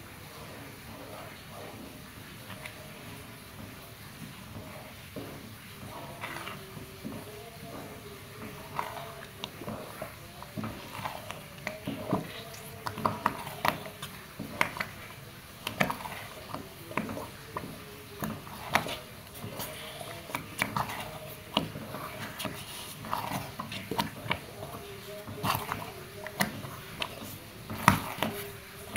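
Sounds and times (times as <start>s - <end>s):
spoon stirring thick batter: 0.0s - 28.9s
spoon knocking and scraping pot: 2.4s - 28.9s.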